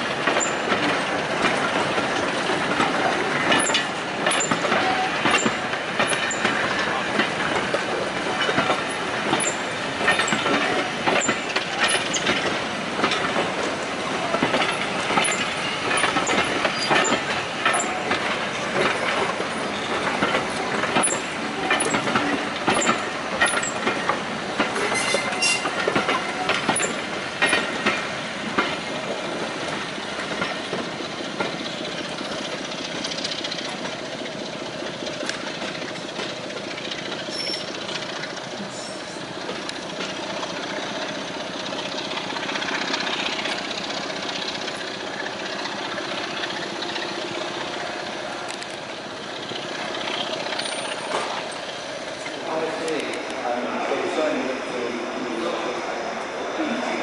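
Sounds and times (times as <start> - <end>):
train coaches rattling on track: 0.0 - 57.0
wheels clacking over rail joints: 0.0 - 57.0.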